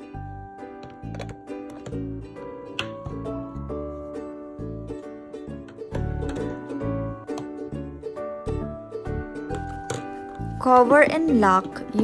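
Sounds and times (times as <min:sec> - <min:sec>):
ukulele music with bass: 0:00.0 - 0:12.0.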